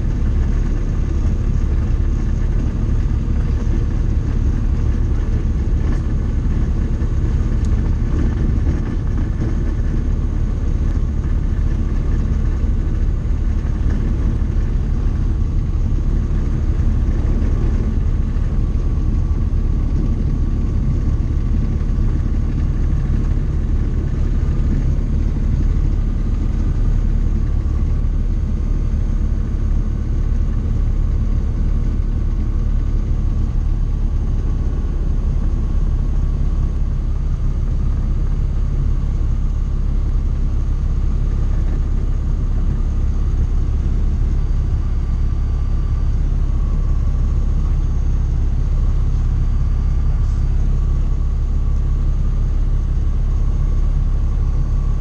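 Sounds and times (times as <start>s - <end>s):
propeller engine drone: 0.0s - 55.0s.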